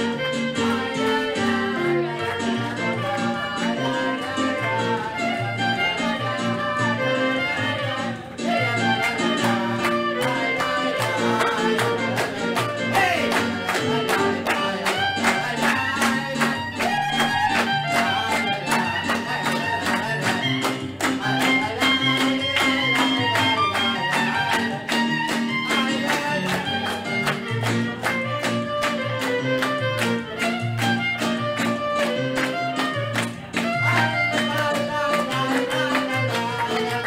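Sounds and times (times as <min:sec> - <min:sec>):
upbeat violin music: 0:00.0 - 0:37.0.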